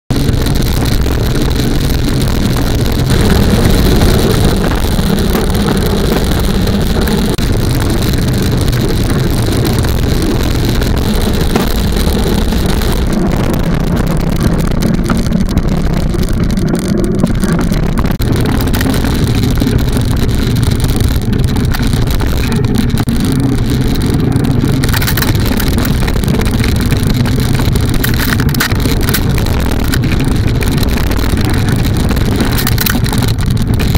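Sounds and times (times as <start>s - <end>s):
bike rattles: 0.1s - 33.9s
wind buffeting microphone: 0.1s - 33.9s
tyre rumble on dirt: 0.7s - 33.9s.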